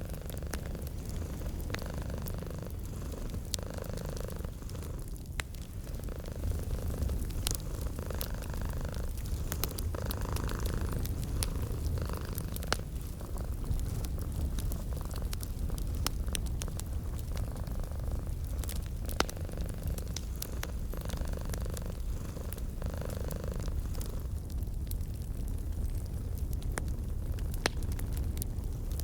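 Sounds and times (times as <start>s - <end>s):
cat purring: 0.0s - 24.6s
wood fire crackling and popping: 0.0s - 29.0s.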